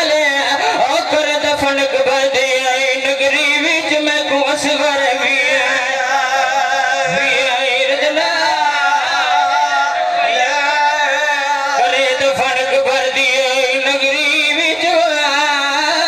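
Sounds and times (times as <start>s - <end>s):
man chanting over loudspeaker: 0.0s - 16.0s.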